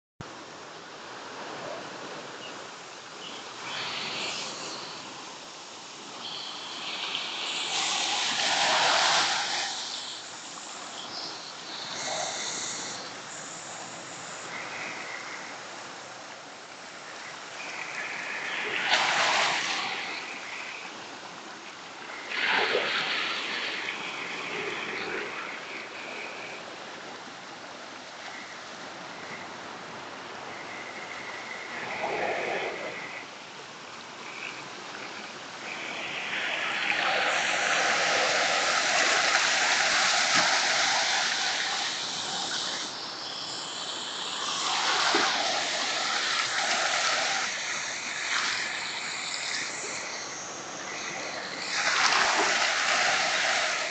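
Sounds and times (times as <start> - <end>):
background hiss: 0.2 - 53.9
waves splashing on rocky shore: 1.2 - 26.7, 34.3 - 53.9.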